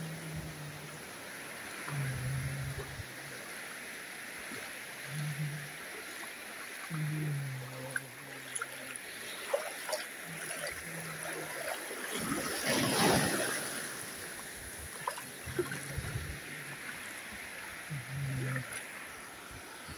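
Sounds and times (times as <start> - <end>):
surf washing: 0.0 - 19.9
wave washing over shallows: 0.0 - 19.9.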